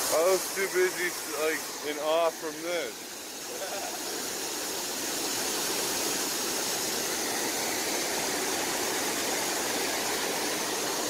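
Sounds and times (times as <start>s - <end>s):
water pouring over a dam: 0.0s - 11.0s.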